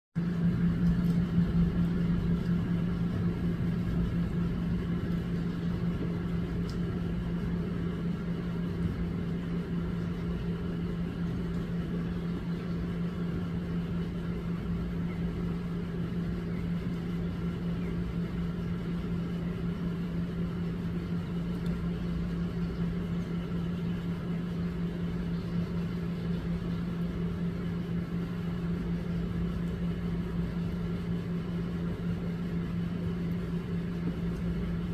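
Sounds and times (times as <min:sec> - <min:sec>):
low machine hum: 0:00.2 - 0:34.9.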